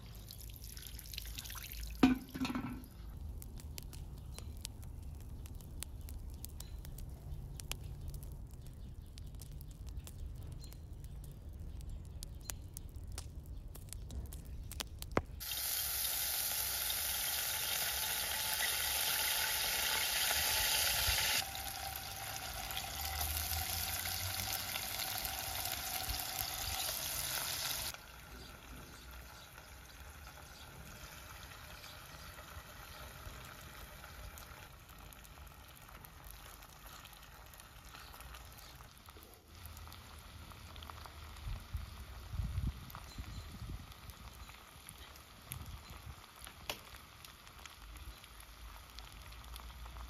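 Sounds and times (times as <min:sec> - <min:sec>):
hot oil sizzling in a pot: 0:00.0 - 0:06.9, 0:15.4 - 0:50.0.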